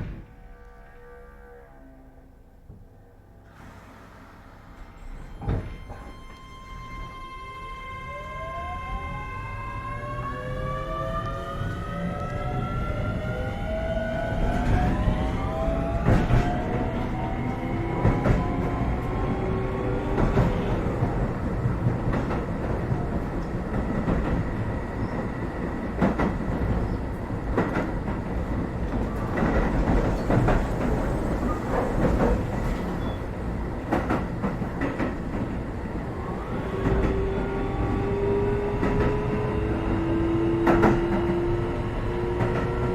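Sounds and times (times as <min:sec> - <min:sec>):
train rumble: 0:02.7 - 0:42.9.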